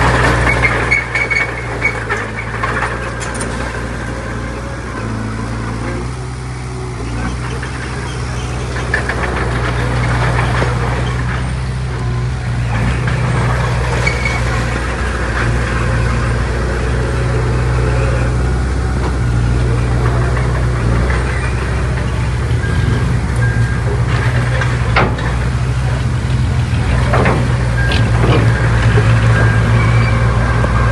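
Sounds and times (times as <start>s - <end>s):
heavy machinery diesel engine: 0.0s - 30.9s
rock and metal scraping: 0.0s - 30.9s.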